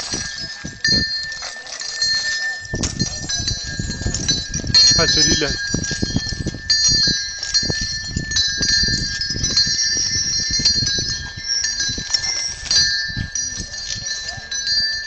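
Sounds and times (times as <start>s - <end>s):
chains clinking: 0.0s - 15.0s
metal bells jingling: 0.0s - 15.0s.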